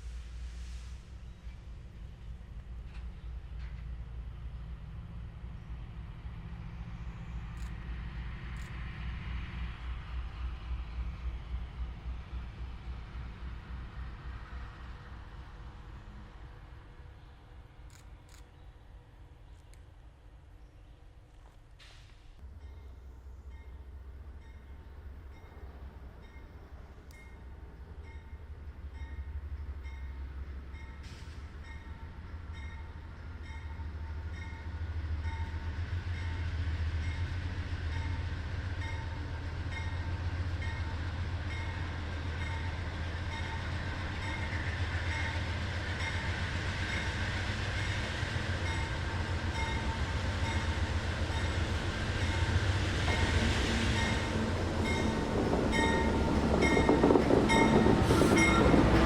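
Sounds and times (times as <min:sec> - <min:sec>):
diesel locomotive engines rumbling: 0:00.0 - 0:59.0.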